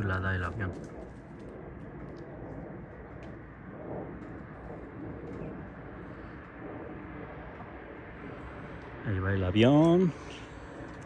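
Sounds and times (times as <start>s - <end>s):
distant airplane rumble: 0.0s - 11.0s.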